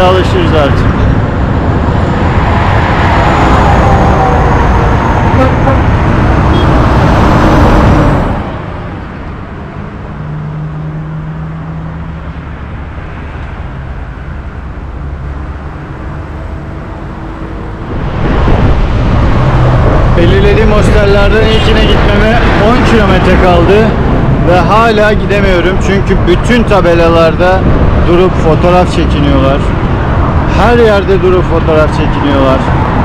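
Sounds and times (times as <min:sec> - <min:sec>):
wind rushing over microphone: 0:00.0 - 0:09.9, 0:12.0 - 0:33.0
road traffic: 0:00.0 - 0:33.0.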